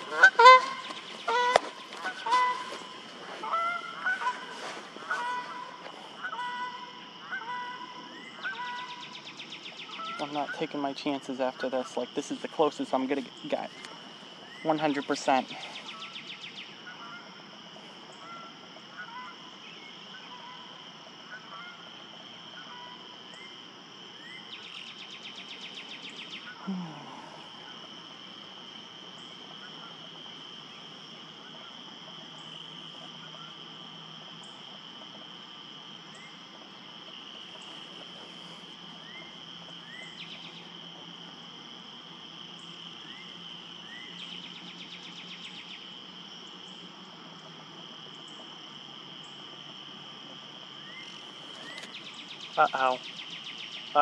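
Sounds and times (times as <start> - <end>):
frogs and insects trilling: 0.0 - 54.0.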